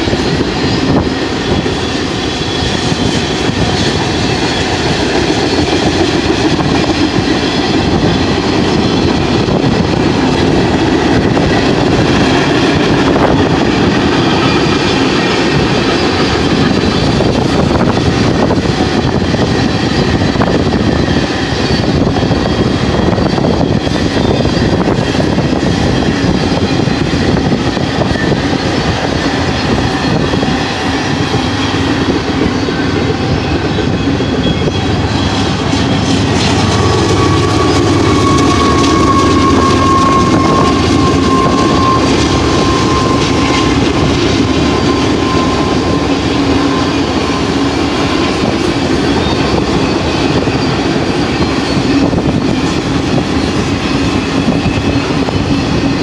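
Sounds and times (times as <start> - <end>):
diesel locomotive engine drone: 0.0 - 56.0
high steady whine: 0.0 - 56.0
train wheels rumbling on rails: 0.0 - 56.0.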